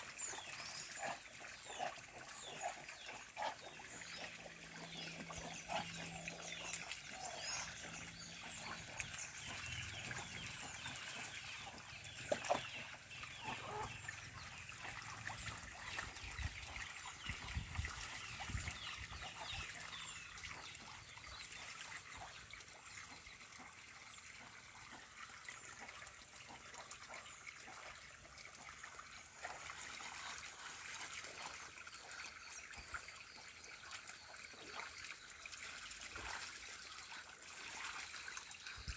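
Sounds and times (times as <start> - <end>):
ducks splashing in water: 0.0 - 38.8.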